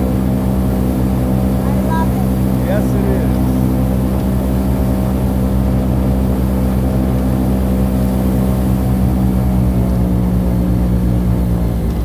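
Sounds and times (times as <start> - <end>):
airboat engine drone: 0.0 - 12.0.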